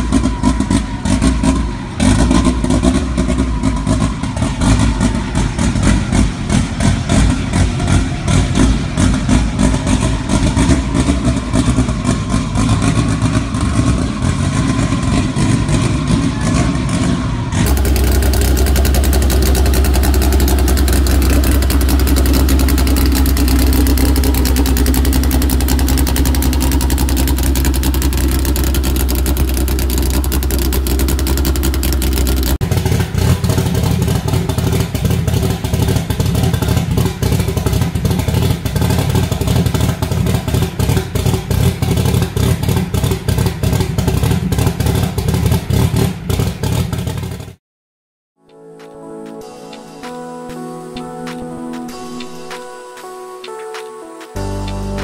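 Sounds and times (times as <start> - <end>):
car engine low drone: 0.0 - 47.6, 54.4 - 55.0
engine choppy lumpy idle: 0.0 - 47.6.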